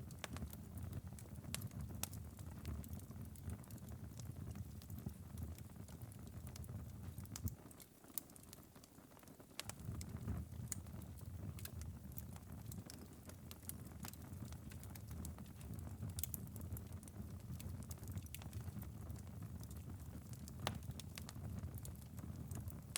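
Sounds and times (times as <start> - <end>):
fire crackling and popping: 0.0 - 22.9
low fire rumble: 0.0 - 22.9.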